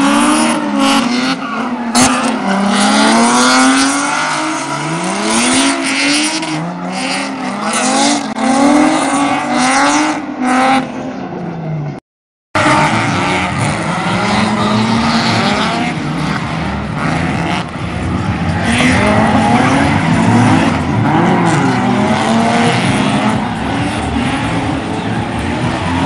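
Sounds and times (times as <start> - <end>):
car engines revving: 0.0 - 12.0, 12.6 - 26.0.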